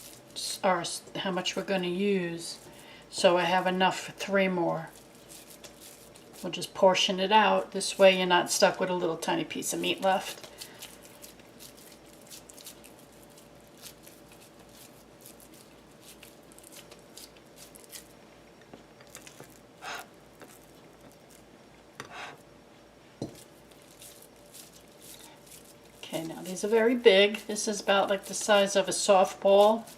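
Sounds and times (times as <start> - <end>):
rustles: 0.0 - 8.9, 9.5 - 29.9
hands squishing ground beef: 1.3 - 18.2, 19.0 - 21.5, 23.2 - 29.9.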